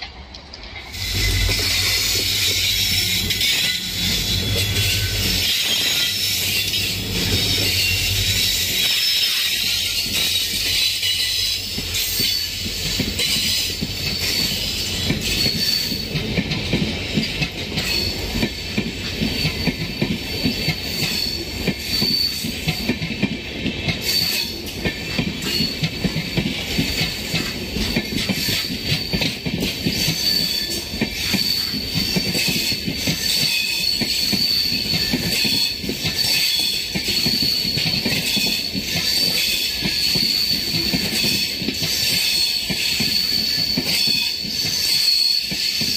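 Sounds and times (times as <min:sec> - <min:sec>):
steel wheels clattering on track: 0:00.0 - 0:45.9
high-pitched wheel squeal: 0:00.9 - 0:16.2, 0:17.8 - 0:22.9, 0:28.4 - 0:45.9.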